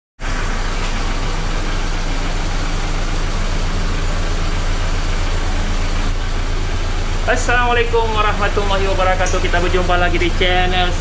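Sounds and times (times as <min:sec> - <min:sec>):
car engine idling: 0:00.2 - 0:11.0.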